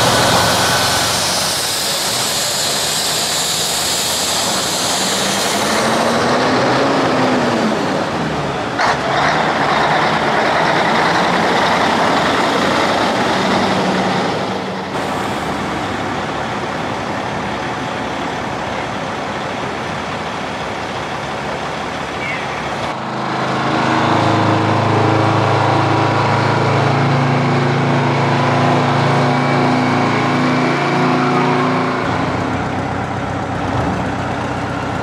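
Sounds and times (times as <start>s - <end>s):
diesel truck engines driving by: 0.0s - 35.0s
loud rush of noise: 0.0s - 35.0s.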